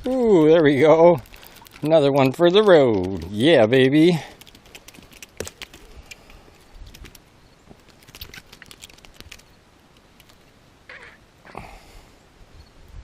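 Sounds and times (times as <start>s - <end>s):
clicks and rustles of handling: 0.0s - 10.5s.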